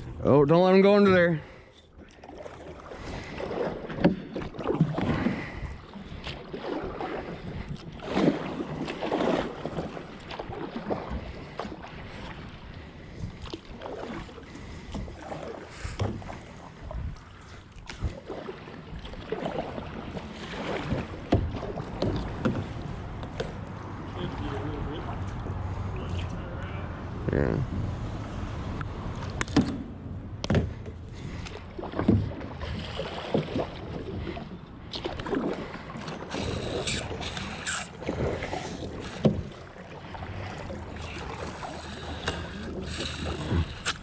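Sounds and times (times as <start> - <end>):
water splashing around kayak: 0.0 - 44.0.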